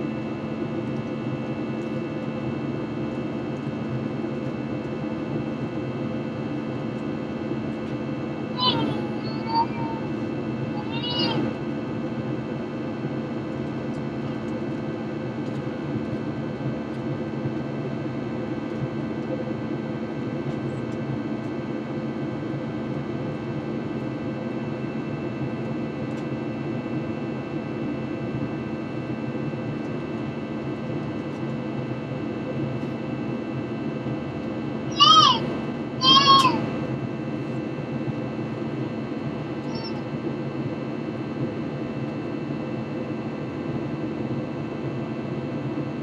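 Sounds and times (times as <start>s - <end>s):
airplane cabin drone: 0.0s - 46.0s.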